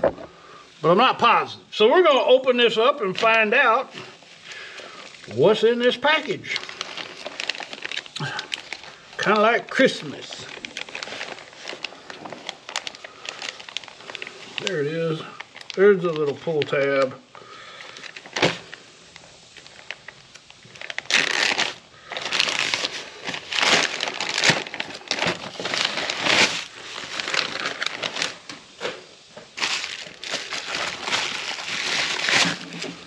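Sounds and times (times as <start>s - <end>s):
plastic packaging crinkling: 2.1s - 33.0s.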